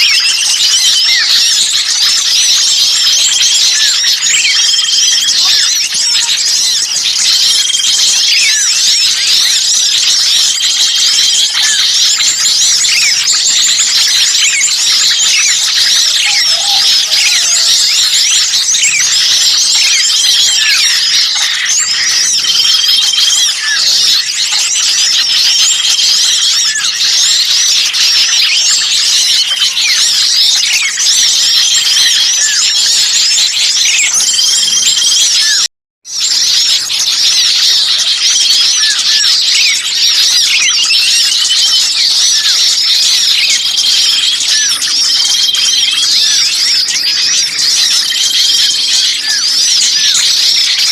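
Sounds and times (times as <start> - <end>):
songbirds chorus chirping: 0.0 - 50.9.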